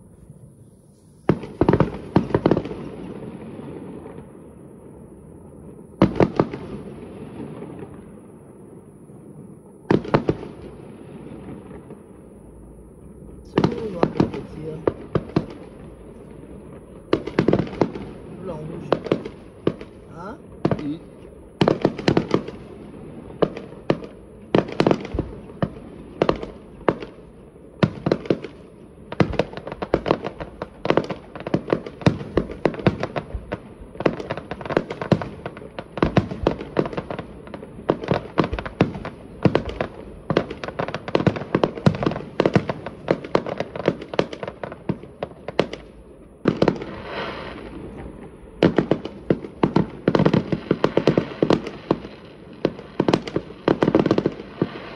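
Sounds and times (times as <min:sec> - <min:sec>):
fireworks crackling: 0:00.0 - 0:54.9.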